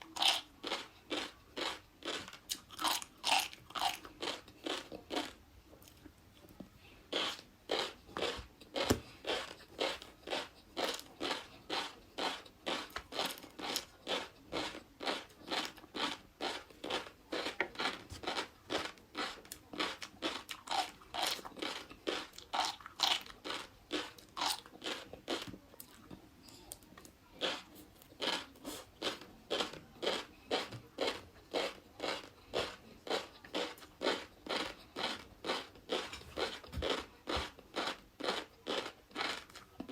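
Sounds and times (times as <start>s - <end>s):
crunchy chewing: 0.0s - 6.1s, 7.1s - 39.9s.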